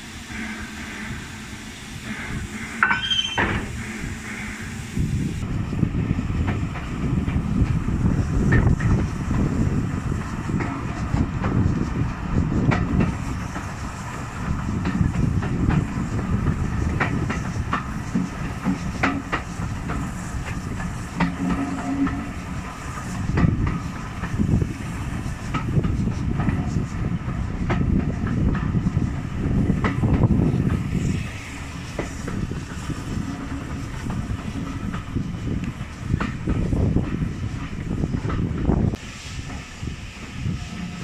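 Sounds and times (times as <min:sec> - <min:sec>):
train wheels rumbling: 0:00.0 - 0:41.0
wheels clicking over rail joints: 0:06.0 - 0:41.0.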